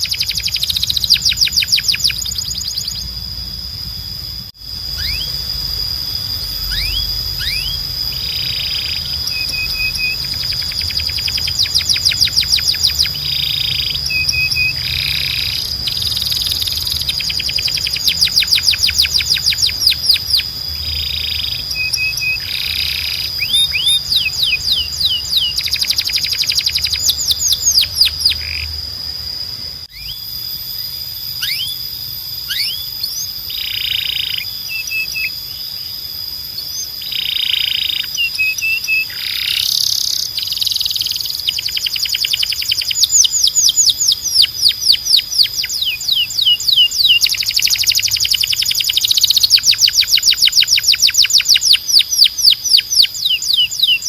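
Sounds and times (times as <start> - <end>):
canary trilling: 0.0 - 3.2, 4.8 - 5.6, 6.2 - 28.7, 31.4 - 31.8, 32.5 - 35.6, 36.6 - 54.0.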